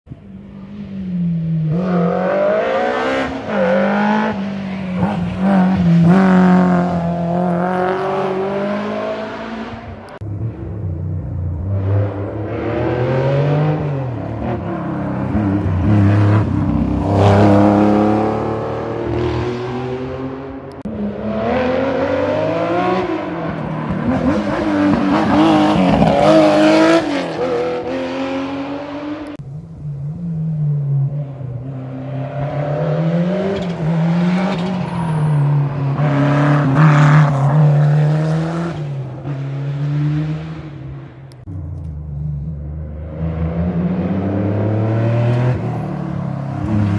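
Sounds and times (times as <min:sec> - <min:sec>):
rally car engine revving: 0:00.1 - 0:46.9.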